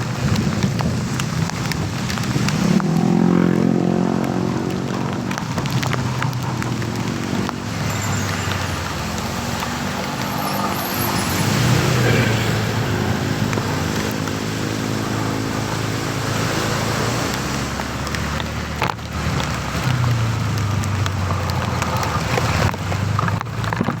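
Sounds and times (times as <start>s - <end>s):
road noise: 0.0s - 24.0s
vehicle engines running: 0.0s - 24.0s.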